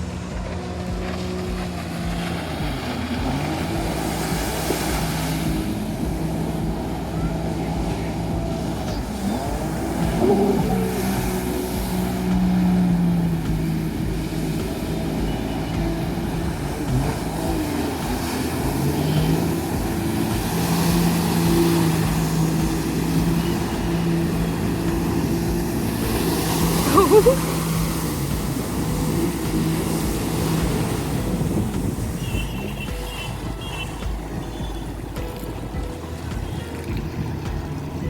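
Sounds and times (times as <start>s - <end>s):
jet ski engine: 0.0s - 38.0s
wind and water rushing: 0.0s - 38.0s.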